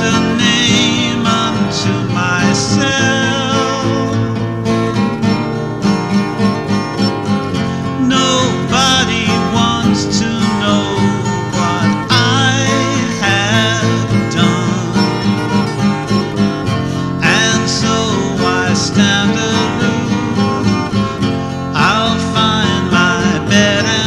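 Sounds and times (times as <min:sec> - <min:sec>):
person singing: 0:00.0 - 0:04.4, 0:07.7 - 0:16.0, 0:17.0 - 0:24.0
acoustic guitar: 0:00.0 - 0:24.0.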